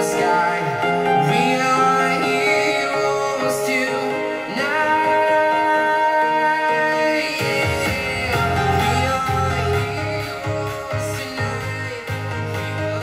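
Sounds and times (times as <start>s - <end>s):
song with singing over speaker: 0.0s - 13.0s.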